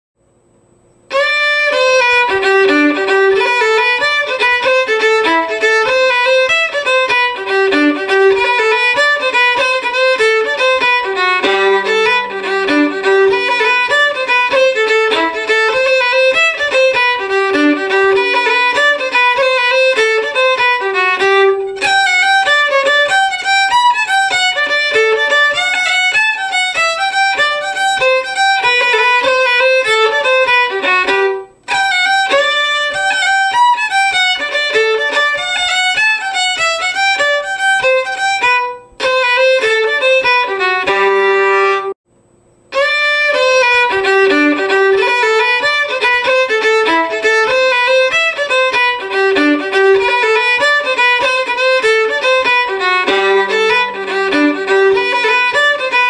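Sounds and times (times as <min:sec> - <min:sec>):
fiddle playing lively tune: 0:01.1 - 0:42.0, 0:42.7 - 0:56.0.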